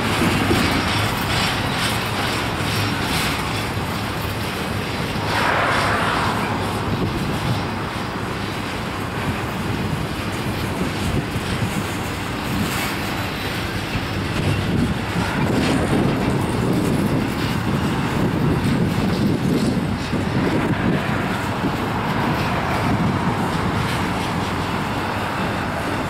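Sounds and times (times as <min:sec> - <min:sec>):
wheels clicking over rails: 0:00.0 - 0:05.7, 0:06.8 - 0:26.0
freight train rumbling past: 0:00.0 - 0:26.0.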